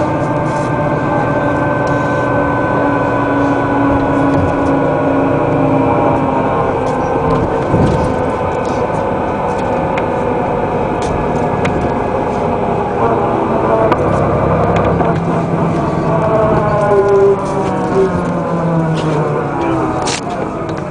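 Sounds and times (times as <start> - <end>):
bus diesel engine running: 0.0 - 20.9
rattles and clicks from bus body: 0.0 - 20.9.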